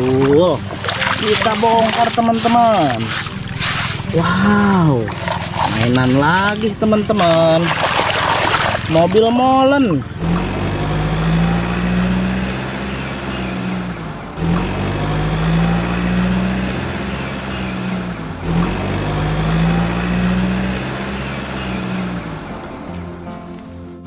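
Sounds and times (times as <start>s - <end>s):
engine hum: 0.0s - 24.0s.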